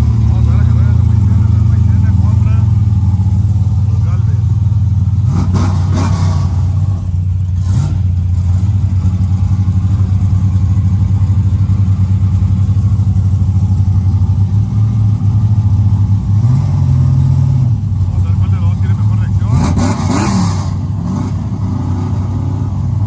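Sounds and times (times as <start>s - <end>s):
loud car engine idling: 0.0s - 23.0s.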